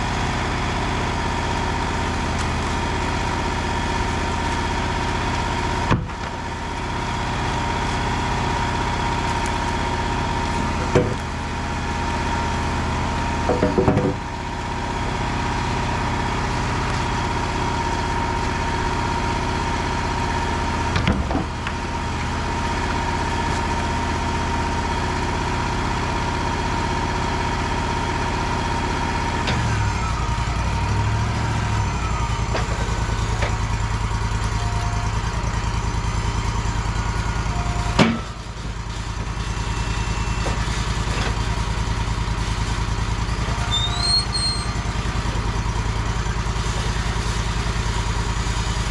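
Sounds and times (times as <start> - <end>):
sawmill engine running: 0.0 - 48.9.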